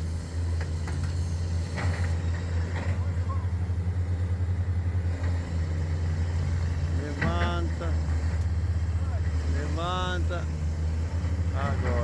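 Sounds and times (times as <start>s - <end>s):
diesel machinery droning: 0.0s - 12.0s.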